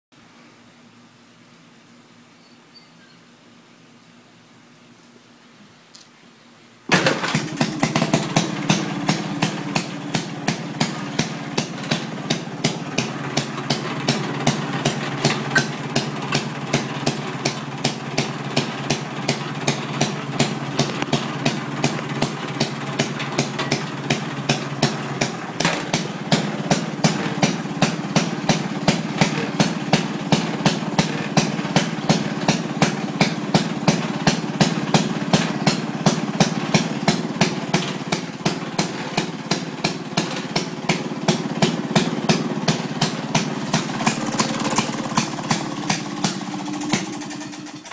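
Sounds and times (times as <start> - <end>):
small gasoline engine popping: 6.9 - 47.9.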